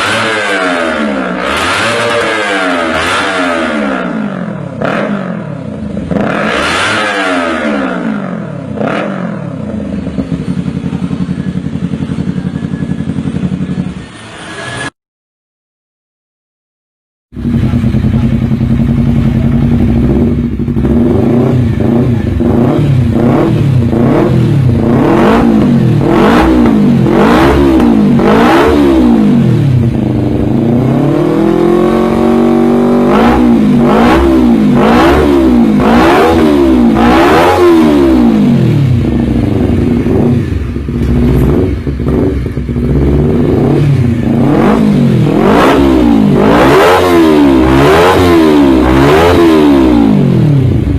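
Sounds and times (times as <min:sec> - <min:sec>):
motorcycle engine revving: 0:00.0 - 0:15.0, 0:17.3 - 0:50.9.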